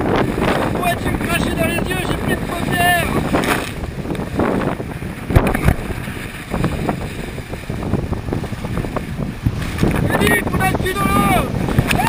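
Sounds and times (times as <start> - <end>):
water rushing and splashing: 0.0 - 12.0
water slaps on hull: 0.0 - 12.0
wind buffeting microphone: 0.0 - 12.0.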